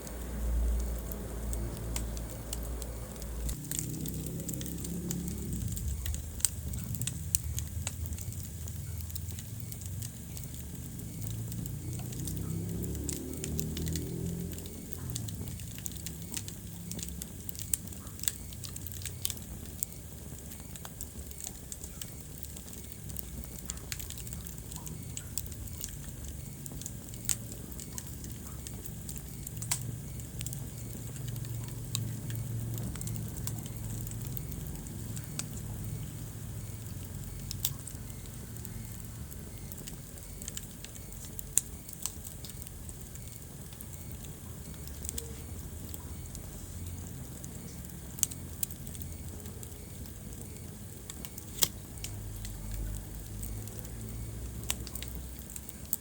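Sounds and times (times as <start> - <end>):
fire crackling and popping: 0.0 - 56.0
low steady rumble: 0.0 - 56.0.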